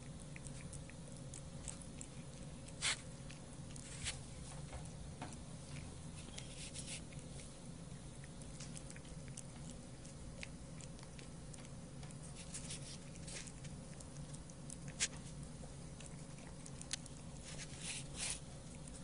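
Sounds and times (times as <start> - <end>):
cat licking and chewing: 0.0 - 19.0
low steady hum: 0.0 - 19.0.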